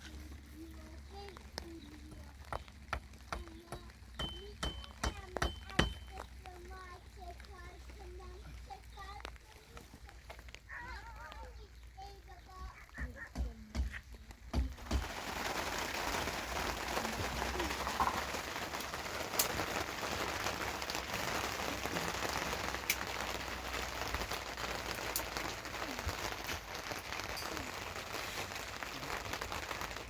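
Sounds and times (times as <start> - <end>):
heavy rain falling: 0.0 - 13.0, 14.6 - 30.0
sharp taps of rain: 0.0 - 30.0.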